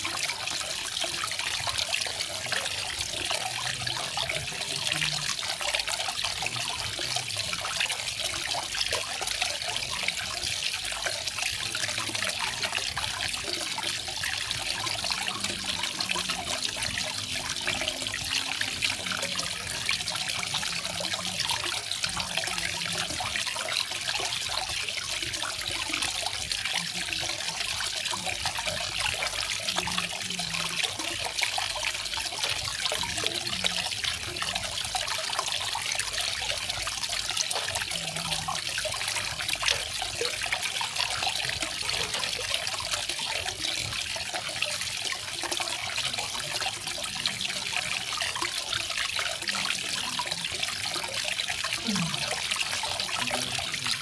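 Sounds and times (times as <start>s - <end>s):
waterfall splashing and trickling: 0.0s - 54.0s.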